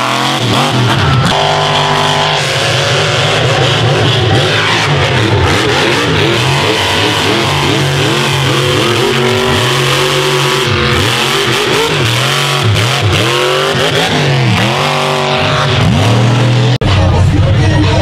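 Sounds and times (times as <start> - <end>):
tires spinning through dirt: 0.0 - 16.8
truck engine revving hard: 0.0 - 18.0.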